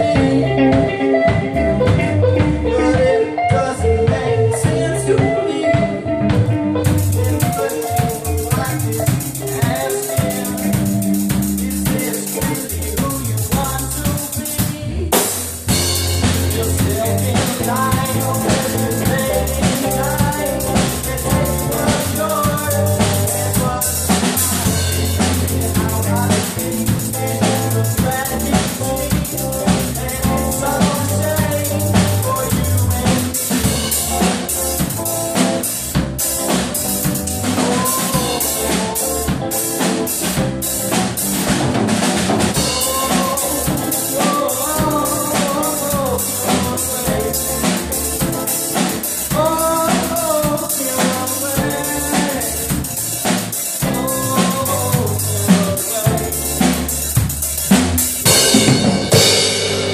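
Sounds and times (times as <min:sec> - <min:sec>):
drum kit beat: 0:00.0 - 0:59.9
electric guitars: 0:00.0 - 0:59.9
rock band playing live: 0:00.0 - 0:59.9.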